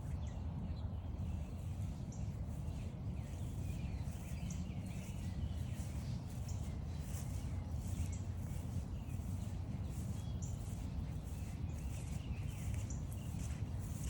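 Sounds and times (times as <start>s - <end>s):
birds chirping and singing: 0.0s - 14.0s
steady low rumble: 0.0s - 14.0s.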